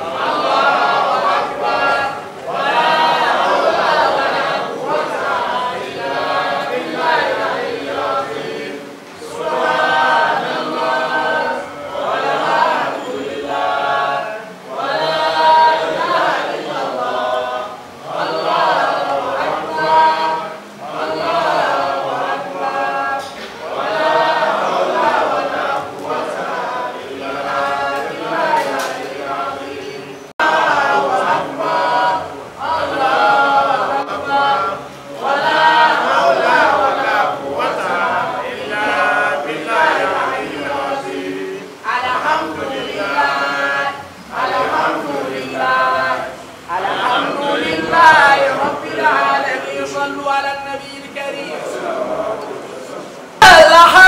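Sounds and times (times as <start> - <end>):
unaccompanied vocal chanting: 0.0 - 54.0.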